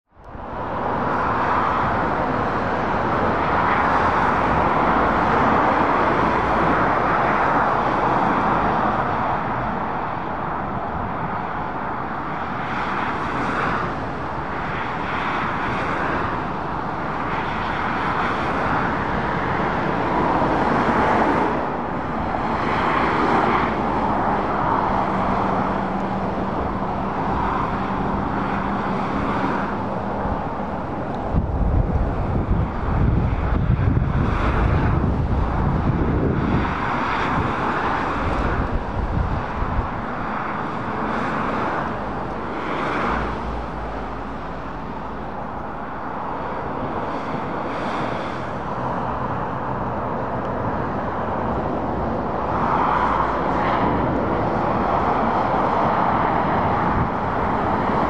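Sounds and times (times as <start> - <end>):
traffic roar: 0.1 - 58.0.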